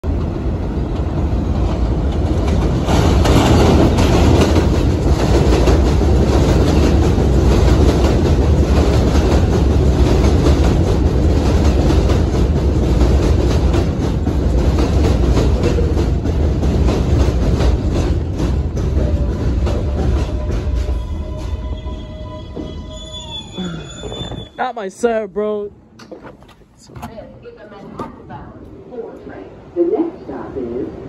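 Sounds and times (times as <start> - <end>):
subway train rumbling past: 0.0 - 25.7, 27.2 - 31.0.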